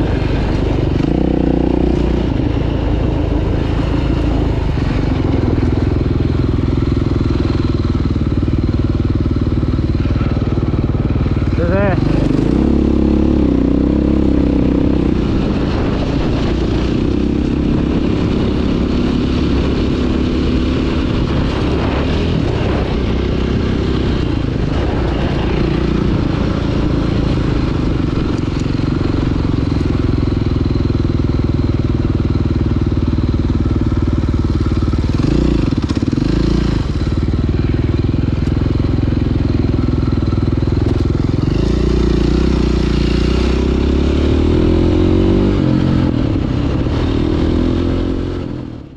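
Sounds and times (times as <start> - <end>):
dirt bike engine running: 0.0 - 48.9.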